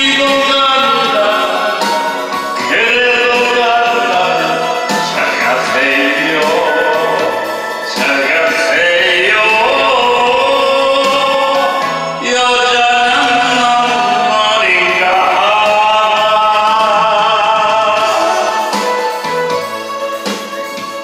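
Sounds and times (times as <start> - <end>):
man singing into microphone: 0.0 - 19.4
karaoke keyboard backing music: 0.0 - 21.0.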